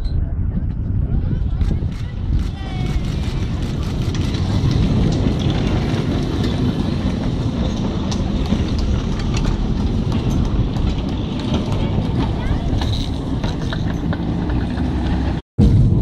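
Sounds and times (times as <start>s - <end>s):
tram wheels rumbling on rails: 0.1s - 16.0s.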